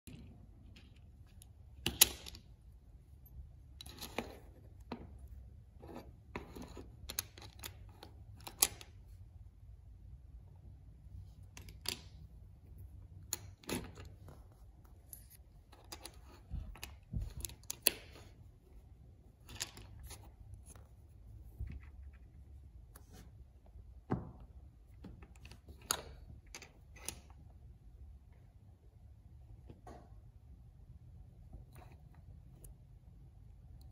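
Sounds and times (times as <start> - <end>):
low steady hum: 0.0 - 33.9.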